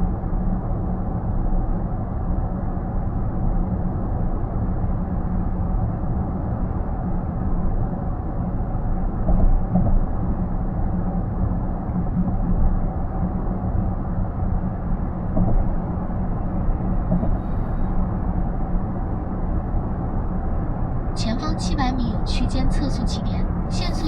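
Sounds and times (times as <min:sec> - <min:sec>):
road and tyre noise in car: 0:00.0 - 0:24.0.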